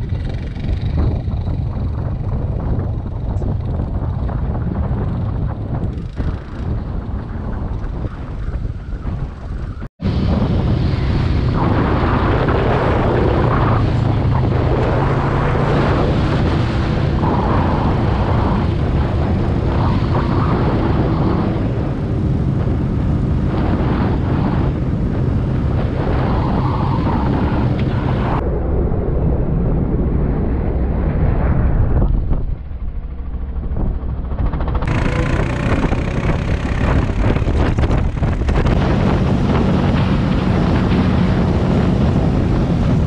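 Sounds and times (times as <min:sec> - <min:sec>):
quad bike engine running: 0:00.0 - 0:25.6, 0:33.6 - 0:43.0
wind noise on microphone: 0:00.0 - 0:43.0.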